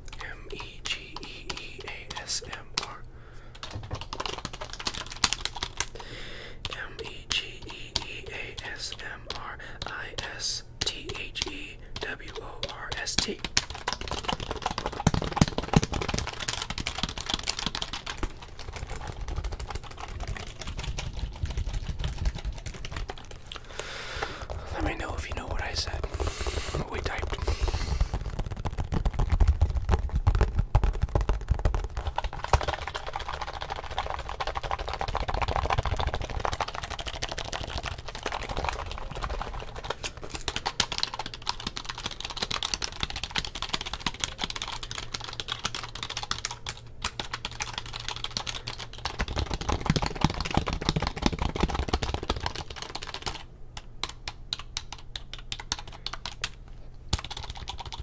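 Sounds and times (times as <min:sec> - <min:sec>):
typing on keyboard: 0:00.0 - 0:06.0, 0:06.6 - 0:23.5, 0:26.8 - 0:58.0.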